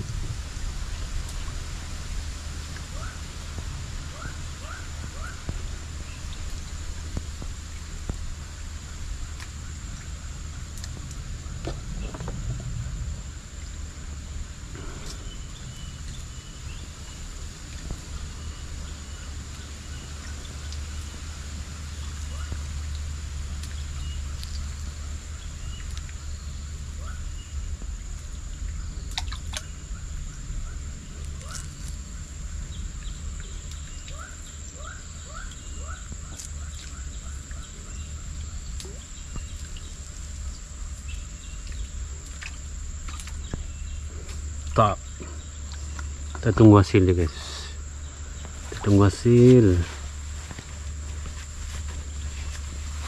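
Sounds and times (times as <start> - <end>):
insects droning: 0.0 - 53.0
low rumble: 0.0 - 53.0.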